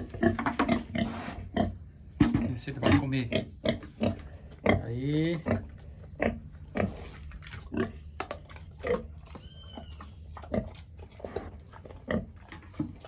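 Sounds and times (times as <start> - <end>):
pig eating: 0.0 - 13.0.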